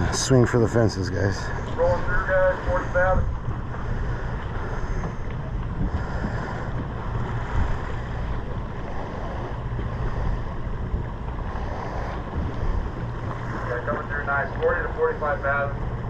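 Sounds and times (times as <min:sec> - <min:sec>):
boat engine humming: 0:00.0 - 0:16.0
sea wash: 0:00.0 - 0:16.0
wind buffeting microphone: 0:00.0 - 0:16.0.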